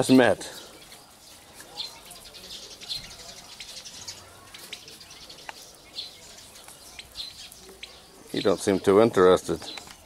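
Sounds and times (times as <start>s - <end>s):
turkey poults peeping: 0.0s - 10.0s.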